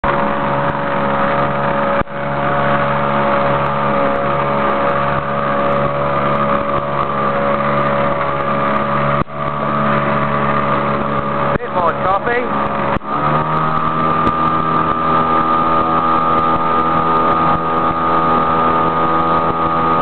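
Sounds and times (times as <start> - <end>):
outboard motor running: 0.0 - 20.0
water noise: 0.0 - 20.0.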